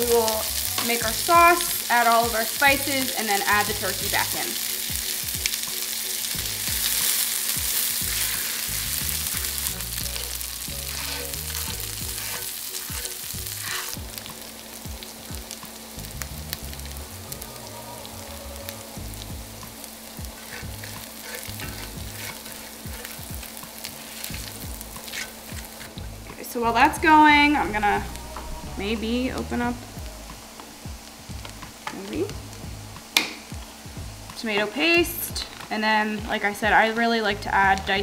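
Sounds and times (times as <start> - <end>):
onions sizzling in hot oil: 0.0 - 38.0.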